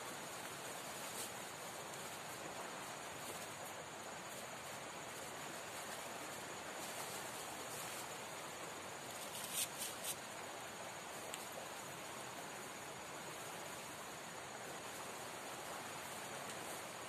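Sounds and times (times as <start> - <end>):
insects chirping: 0.0 - 17.0
river water rushing: 0.0 - 17.0.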